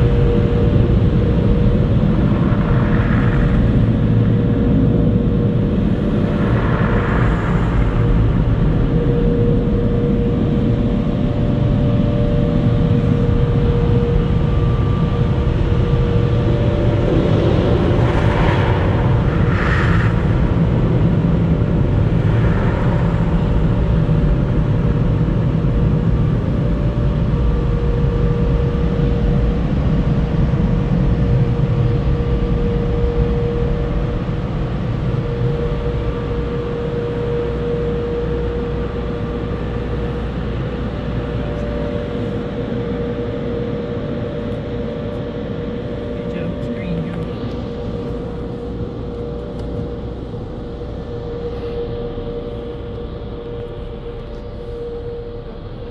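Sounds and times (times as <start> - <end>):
mechanical rumble with hum: 0.0 - 55.9.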